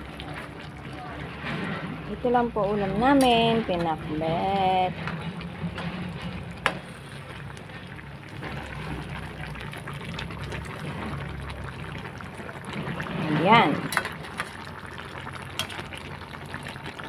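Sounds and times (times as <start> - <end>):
broth bubbling: 0.0 - 17.0.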